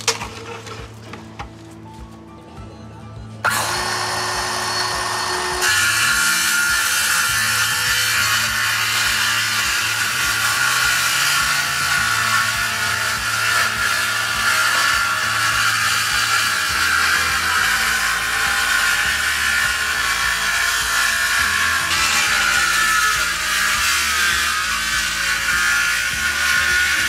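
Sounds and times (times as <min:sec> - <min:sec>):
circular saw cutting wood: 0:03.4 - 0:27.0.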